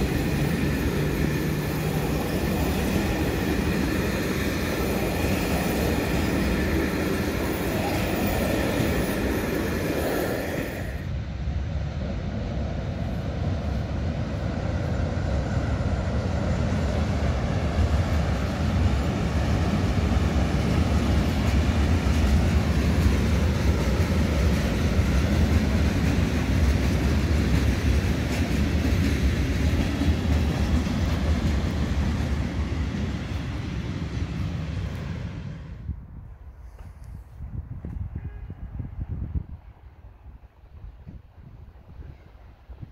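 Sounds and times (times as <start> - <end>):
train rumbling on track: 0.0 - 42.9.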